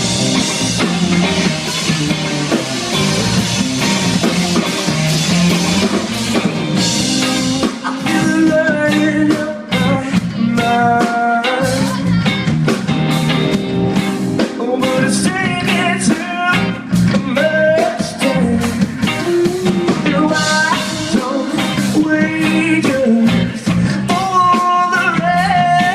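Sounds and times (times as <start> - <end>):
live rock band: 0.0 - 25.9.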